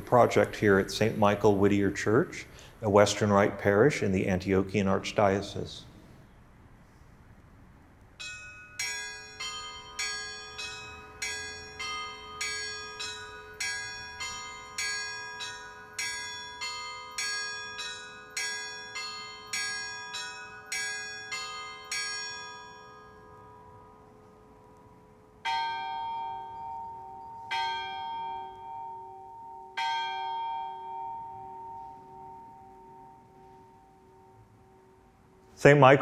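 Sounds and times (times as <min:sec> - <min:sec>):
bells ringing: 0:00.0 - 0:02.3, 0:08.2 - 0:35.5.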